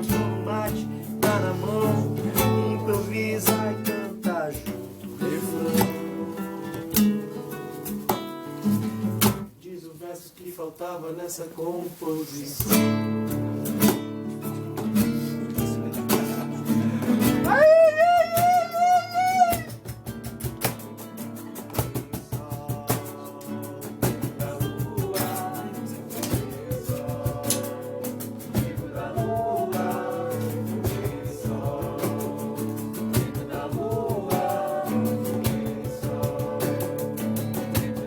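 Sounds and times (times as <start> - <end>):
person singing: 0.0 - 7.5, 12.6 - 19.9, 20.8 - 38.0
acoustic guitar strumming: 0.0 - 9.5, 12.7 - 38.0.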